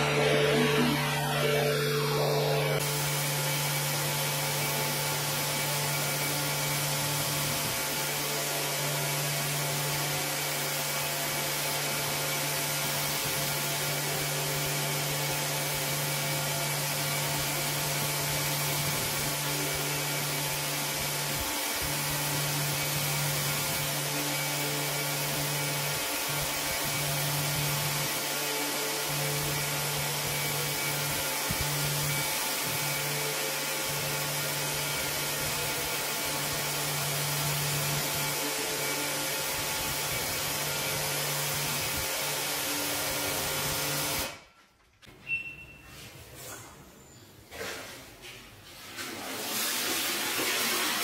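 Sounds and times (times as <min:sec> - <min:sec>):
rug cleaning machine motor humming: 0:00.0 - 0:44.4.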